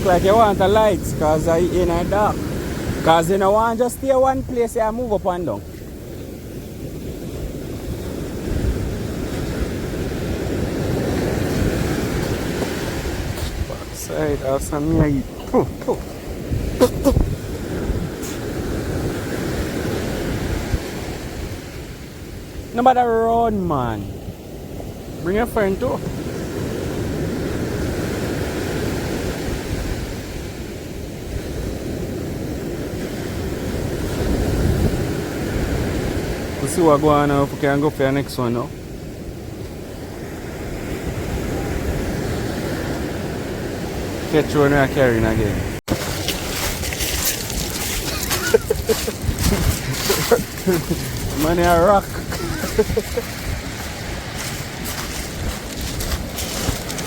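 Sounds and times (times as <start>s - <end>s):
wind buffeting microphone: 0.0s - 22.8s, 23.9s - 36.7s, 38.7s - 57.0s
sea surf washing: 0.0s - 57.0s.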